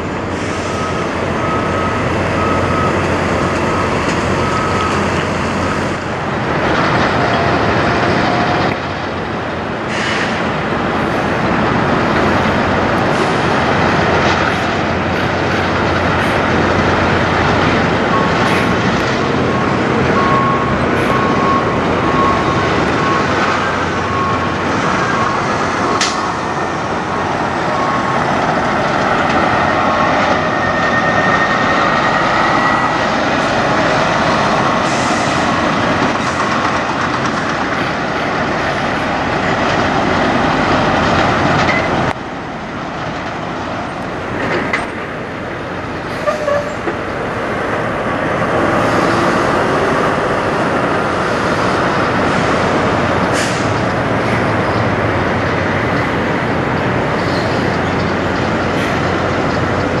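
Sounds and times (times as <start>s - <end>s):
distant traffic: 0.0s - 60.0s
trucks passing on road: 0.0s - 60.0s.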